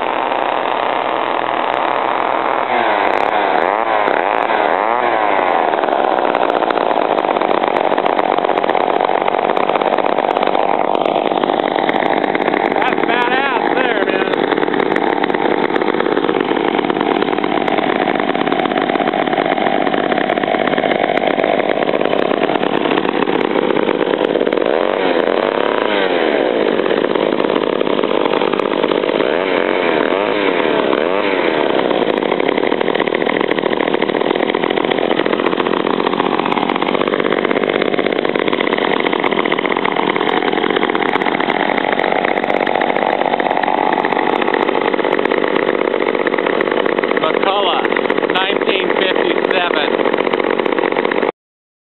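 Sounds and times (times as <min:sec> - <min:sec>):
chainsaw engine running: 0:00.0 - 0:51.4.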